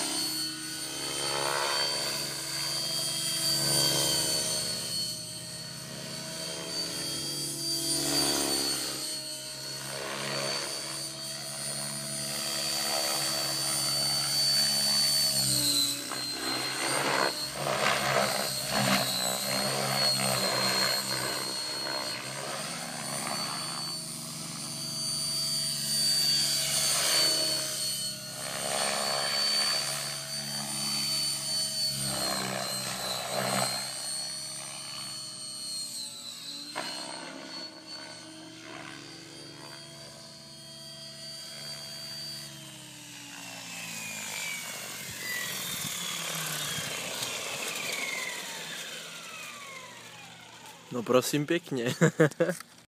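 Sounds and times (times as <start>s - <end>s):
model helicopter high whine: 0.0s - 52.9s.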